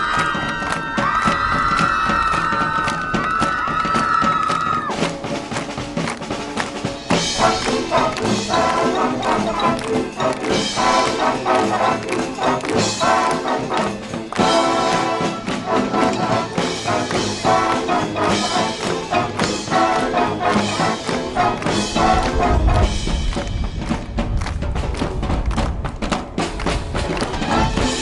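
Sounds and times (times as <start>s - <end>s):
brass band playing: 4.9s - 25.6s, 26.3s - 28.0s.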